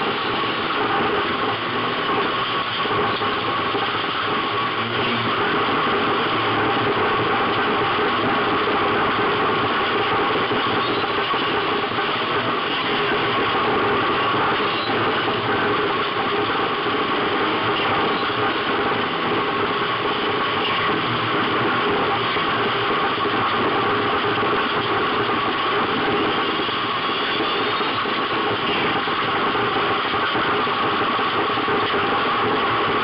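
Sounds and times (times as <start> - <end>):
race car engine running: 0.0 - 33.0.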